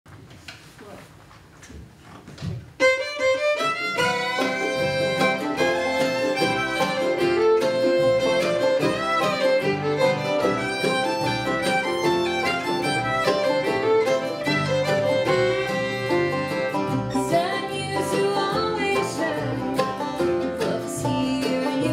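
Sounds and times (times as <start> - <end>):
acoustic guitar: 2.8 - 21.9
banjo: 2.8 - 21.9
fiddle melody: 2.8 - 21.9
mandolin: 2.8 - 21.9
upright bass: 3.4 - 21.9.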